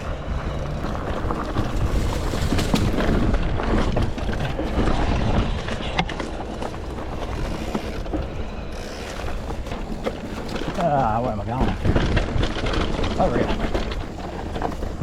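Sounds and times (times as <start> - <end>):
bike tyre and frame rumble: 0.0 - 15.0
knocks and rattles: 0.0 - 15.0.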